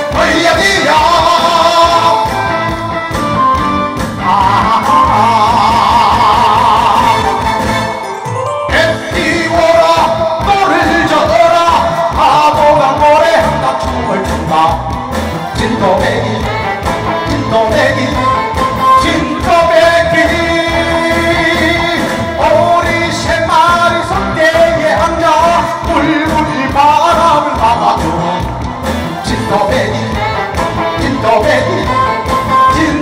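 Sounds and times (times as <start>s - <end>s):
man singing into a microphone: 0.0s - 2.7s, 4.2s - 7.9s, 8.7s - 33.0s
instrumental accompaniment with beat: 0.0s - 33.0s.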